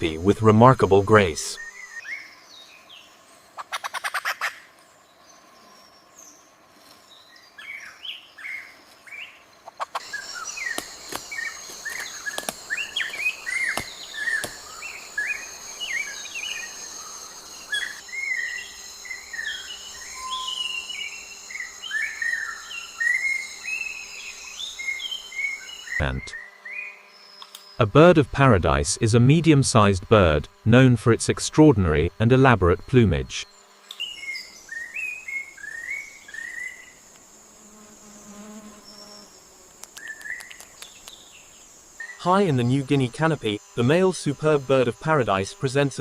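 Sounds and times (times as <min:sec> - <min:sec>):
birds chirping: 0:00.0 - 0:37.4, 0:38.7 - 0:46.0
high insect drone: 0:00.0 - 0:46.0.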